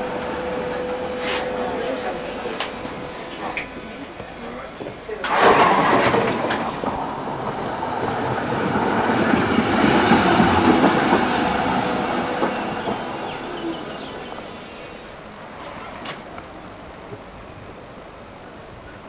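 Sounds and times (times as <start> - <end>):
electric tram rolling on rails: 0.0 - 19.0.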